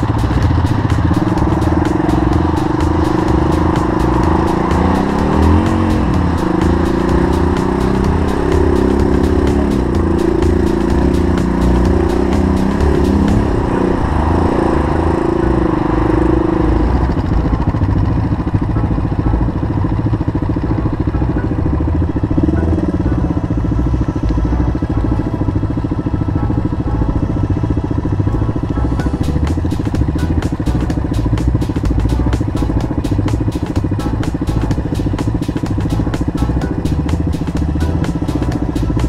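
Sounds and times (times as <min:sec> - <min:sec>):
quick even ticking: 0:00.0 - 0:21.4, 0:27.8 - 0:39.0
motorcycle engine running: 0:00.0 - 0:39.0.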